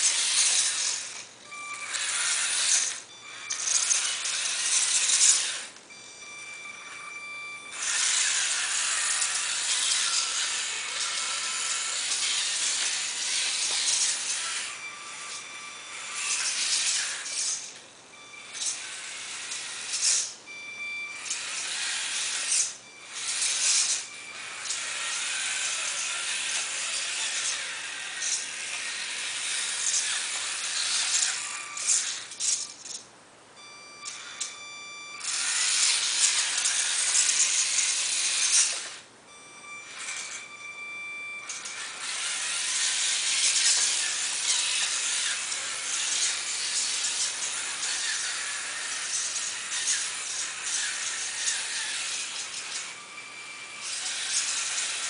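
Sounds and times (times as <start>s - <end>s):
small electric motor buzzing: 0.0s - 33.0s, 34.0s - 55.0s
thin high whine: 0.0s - 55.0s.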